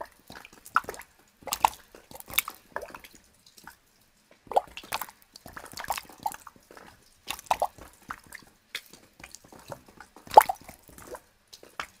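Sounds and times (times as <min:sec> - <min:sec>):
water dripping into snow: 0:00.0 - 0:12.0.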